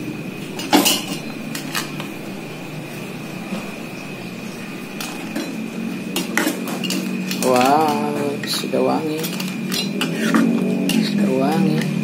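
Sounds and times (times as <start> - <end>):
pot of soup boiling: 0.0 - 12.0
utensils clicking and knocking: 0.0 - 12.0.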